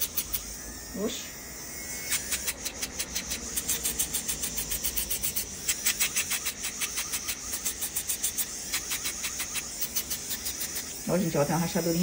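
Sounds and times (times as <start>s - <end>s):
nail drill whining and grinding: 0.0s - 12.0s.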